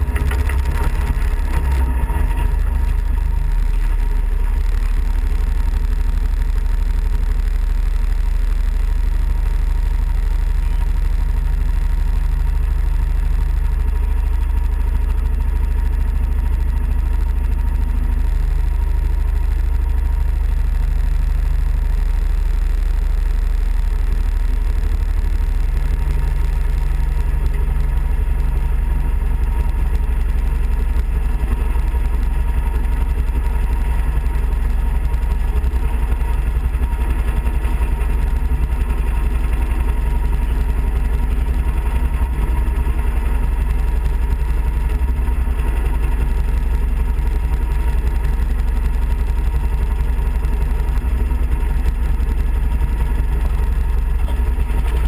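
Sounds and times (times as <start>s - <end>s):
constant low rumble: 0.0s - 55.0s
kart engine running: 0.0s - 55.0s.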